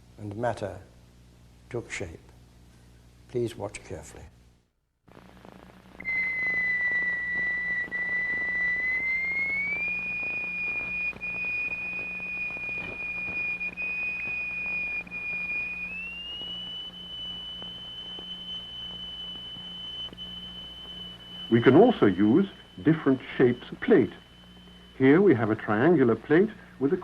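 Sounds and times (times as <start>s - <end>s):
low steady hum: 0.0s - 27.0s
faint film crackle: 1.0s - 27.0s.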